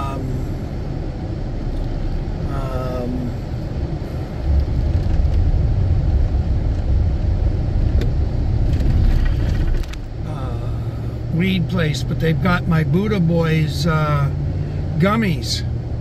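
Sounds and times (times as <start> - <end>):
vehicle highway rumble from inside: 0.0 - 16.0.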